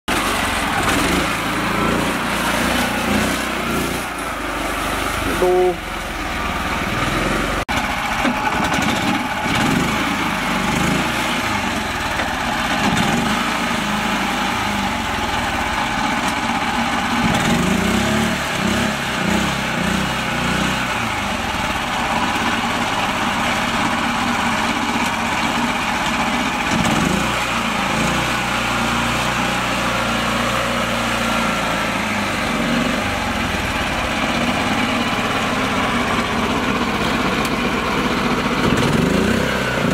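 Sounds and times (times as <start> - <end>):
small tractor engine running: 0.1 - 39.9.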